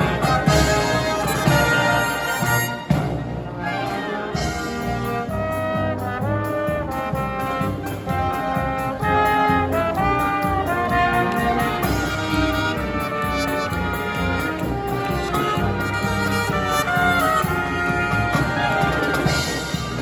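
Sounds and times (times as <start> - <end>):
brass marching band playing: 0.0 - 20.0.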